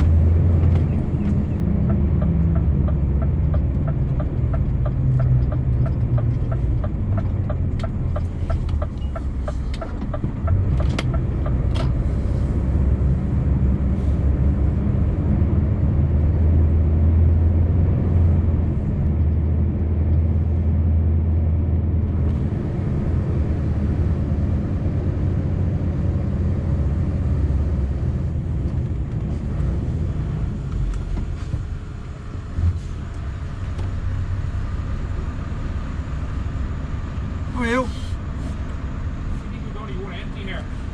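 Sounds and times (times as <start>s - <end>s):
truck engine rumbling: 0.0s - 40.9s.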